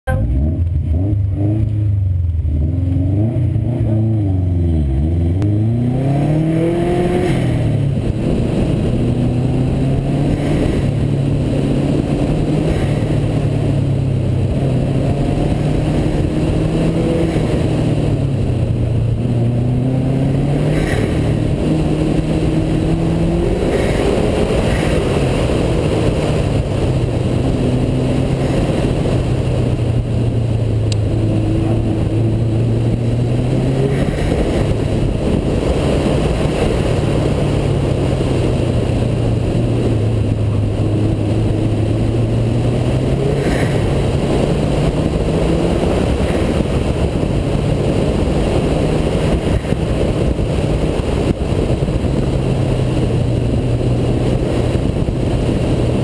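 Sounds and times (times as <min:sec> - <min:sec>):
car engine revving: 0:00.0 - 0:56.0
wind and road noise: 0:00.0 - 0:56.0.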